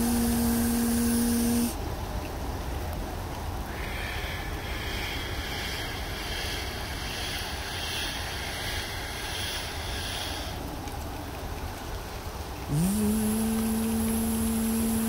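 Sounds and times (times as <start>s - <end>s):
falling sleet and rain hiss: 0.0s - 15.0s.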